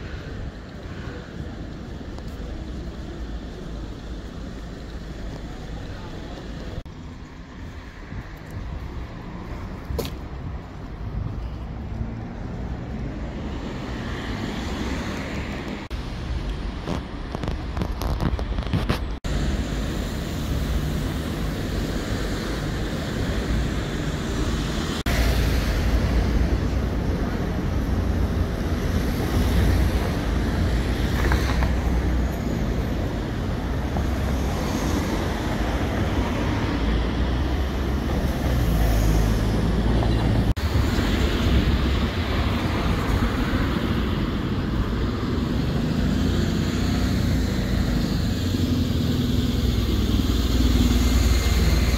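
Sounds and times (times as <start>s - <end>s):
road traffic rumble: 0.0s - 51.9s.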